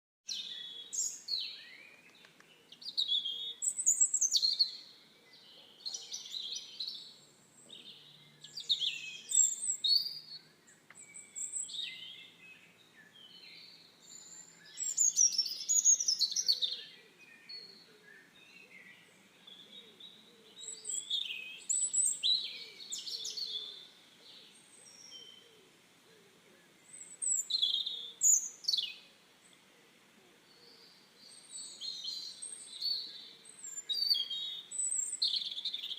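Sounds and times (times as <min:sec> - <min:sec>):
birds chirping and trilling: 0:00.3 - 0:35.9.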